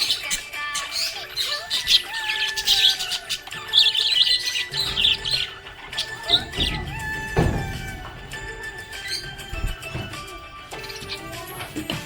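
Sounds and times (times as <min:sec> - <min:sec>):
budgerigar chirping: 0:00.0 - 0:11.8
background music: 0:00.0 - 0:12.0.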